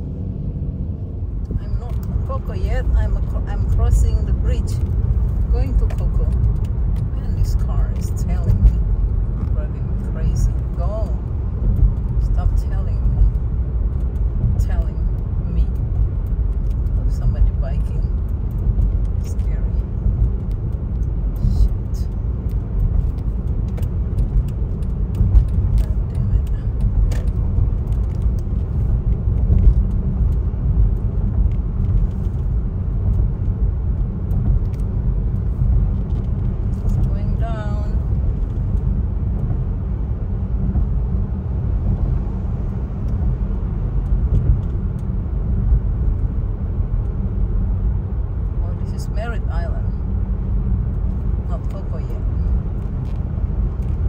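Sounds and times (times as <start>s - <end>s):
car interior road noise: 0.0s - 54.0s.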